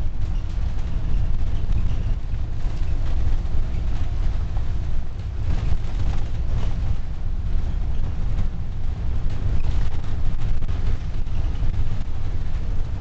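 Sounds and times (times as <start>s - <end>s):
bus engine drone: 0.0s - 13.0s
road rumble: 0.0s - 13.0s
tyre and wind noise: 0.0s - 13.0s.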